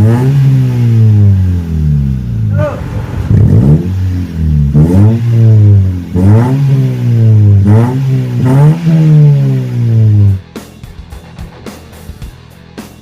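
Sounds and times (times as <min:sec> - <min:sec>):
car engine revving in blips: 0:00.0 - 0:10.5.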